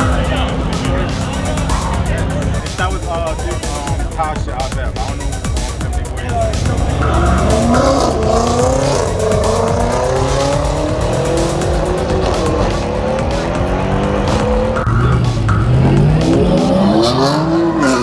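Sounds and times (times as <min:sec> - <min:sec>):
car engine at high revs: 0:00.0 - 0:18.0
tyres squealing: 0:00.0 - 0:18.0.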